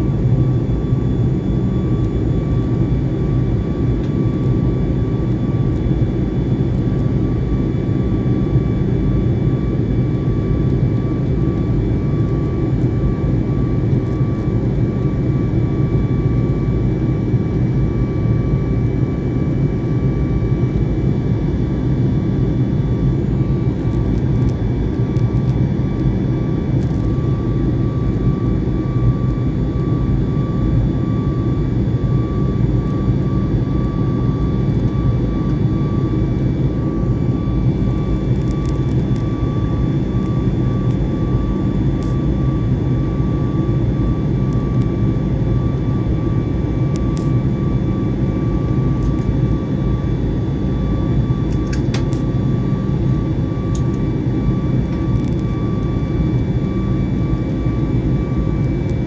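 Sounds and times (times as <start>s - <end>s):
jet engine and airflow roar: 0.0s - 59.0s
thin steady whine: 0.0s - 59.0s.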